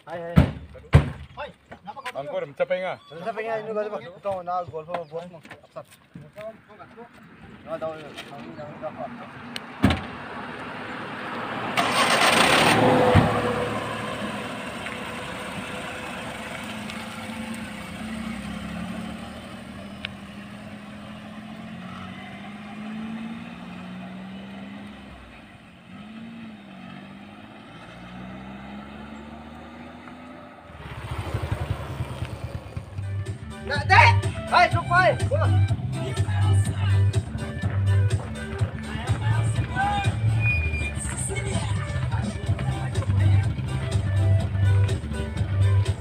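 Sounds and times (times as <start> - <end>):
car engine pulling away: 8.4 - 34.5, 35.2 - 46.0.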